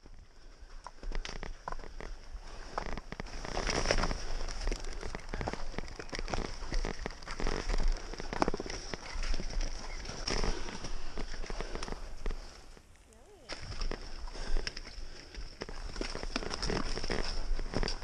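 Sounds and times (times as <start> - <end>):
skis and poles crunching in snow: 0.0 - 18.0
wet snow pattering on camera: 0.0 - 18.0.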